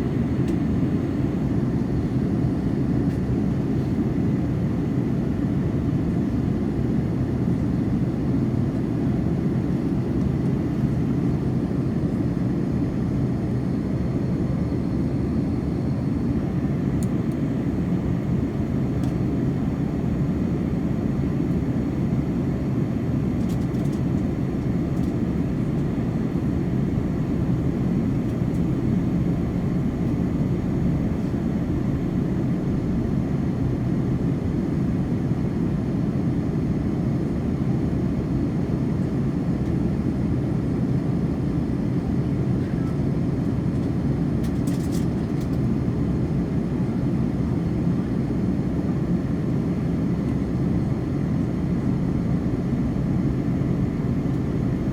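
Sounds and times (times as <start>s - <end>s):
airliner cabin drone: 0.0s - 54.9s.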